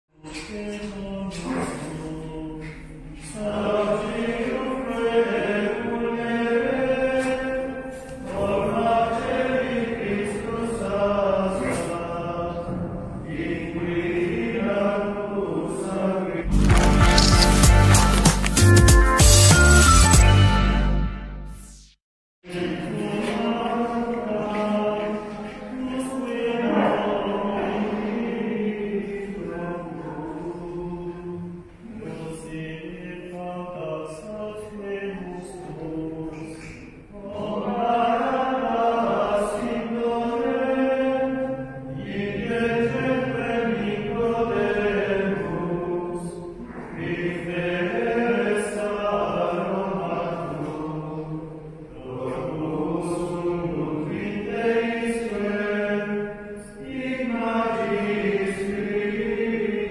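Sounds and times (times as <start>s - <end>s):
choir singing slow chant: 0.4s - 16.5s, 22.4s - 59.9s.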